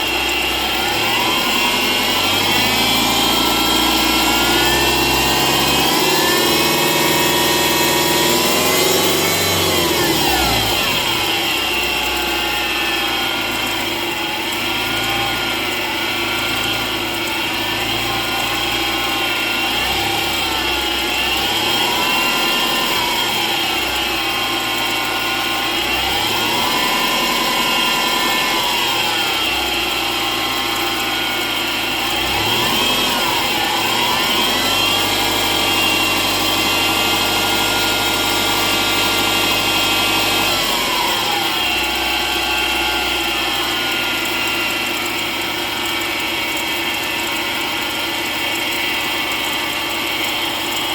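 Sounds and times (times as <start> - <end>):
car engine running: 0.0 - 50.9
high-pitched metallic pulley whine: 0.0 - 50.9.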